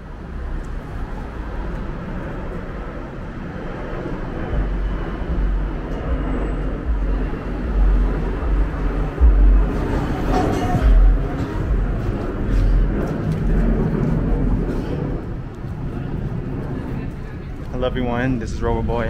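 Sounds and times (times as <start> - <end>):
traffic noise: 0.0 - 19.0
wind buffeting microphone: 0.0 - 19.0.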